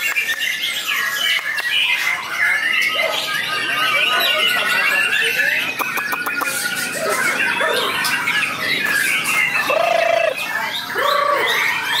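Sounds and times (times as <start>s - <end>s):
bird singing whistles and chatters: 0.0s - 12.0s.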